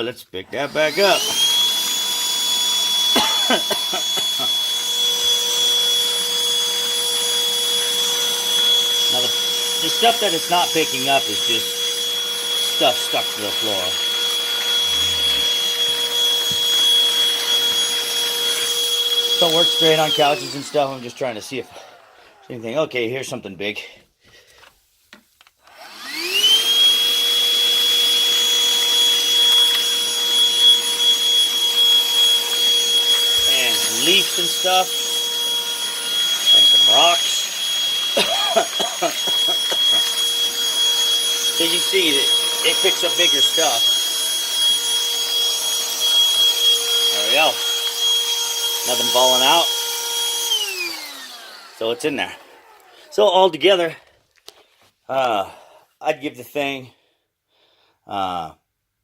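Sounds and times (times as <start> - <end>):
vacuum cleaner whining: 0.0 - 23.8, 25.6 - 55.4.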